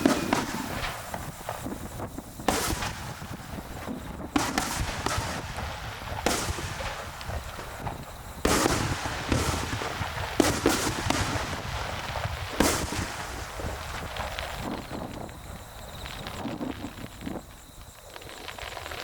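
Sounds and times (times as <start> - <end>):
fireworks bursting with echoes: 0.0 - 19.0
small firework pops: 0.0 - 19.0.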